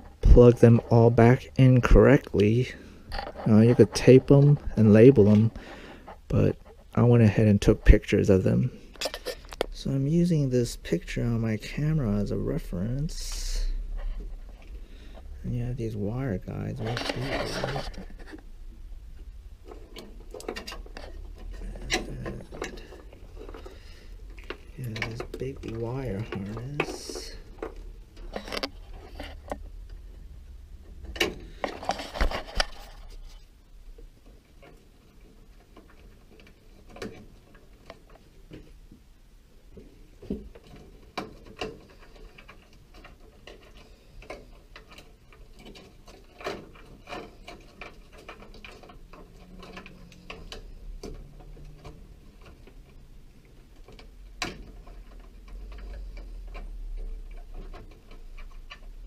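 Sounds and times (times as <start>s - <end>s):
plastic and wire clicks and rattles: 0.0s - 7.0s, 8.9s - 9.8s, 16.3s - 18.5s, 19.2s - 39.0s, 39.6s - 59.0s.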